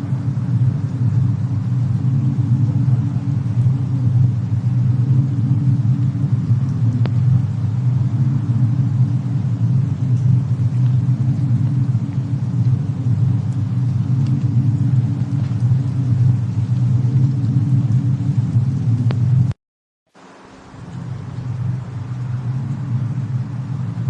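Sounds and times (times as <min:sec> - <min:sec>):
deep rumble: 0:00.0 - 0:19.6, 0:20.6 - 0:24.0
faint fire crackles: 0:00.0 - 0:24.0.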